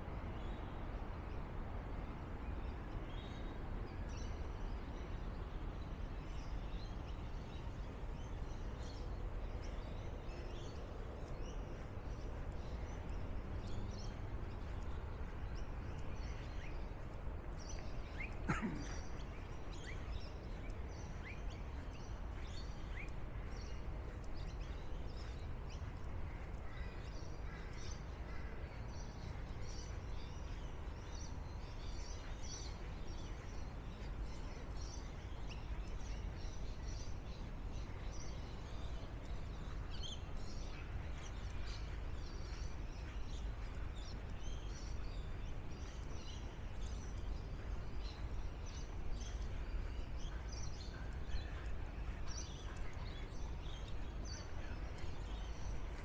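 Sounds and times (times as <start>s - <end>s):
small birds chirping: 6.4s - 56.0s.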